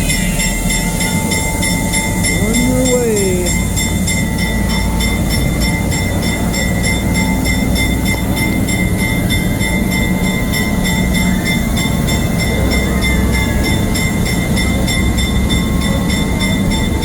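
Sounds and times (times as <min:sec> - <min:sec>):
train high whine: 0:00.0 - 0:17.0
train low rumble: 0:00.0 - 0:17.0.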